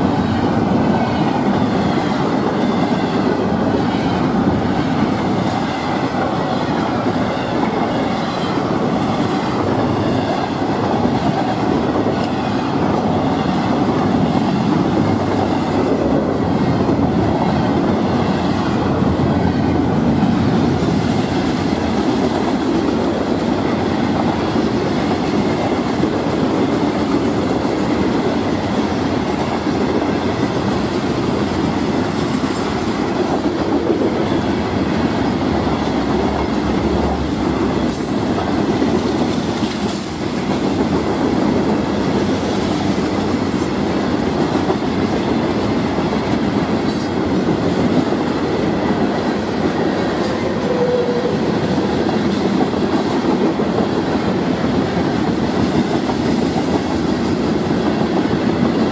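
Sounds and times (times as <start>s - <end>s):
train wheels running on rails: 0.0s - 58.9s.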